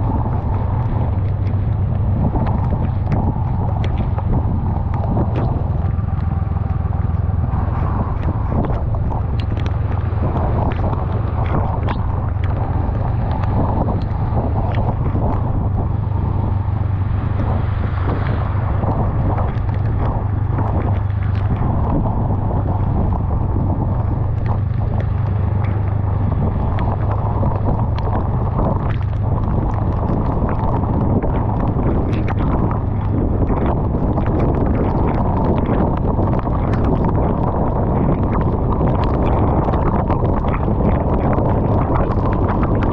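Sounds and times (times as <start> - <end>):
motorcycle engine running: 0.0 - 42.9
rain spattering: 0.0 - 42.9
wind buffeting microphone: 0.0 - 42.9.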